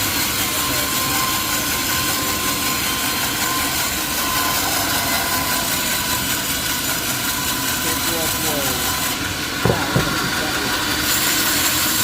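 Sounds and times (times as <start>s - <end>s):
high machine whine: 0.0s - 12.0s
sawmill machinery drone: 0.0s - 12.0s.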